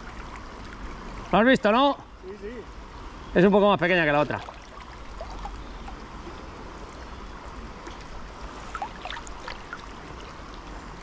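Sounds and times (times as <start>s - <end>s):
stream rushing and burbling: 0.0s - 11.0s.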